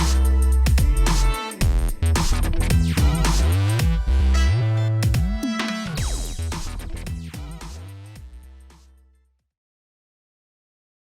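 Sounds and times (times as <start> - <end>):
electronic music with heavy bass: 0.0 - 9.1.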